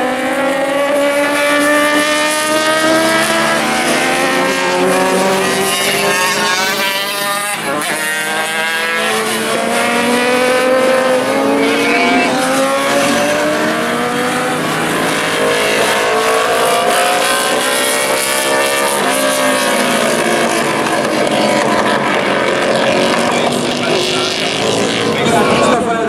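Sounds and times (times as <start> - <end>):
motorcycles accelerating: 0.0 - 26.0.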